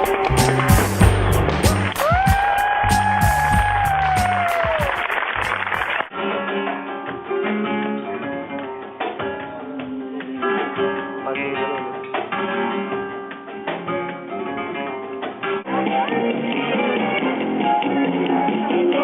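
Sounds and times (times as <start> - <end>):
flamenco guitar playing: 0.0 - 19.0.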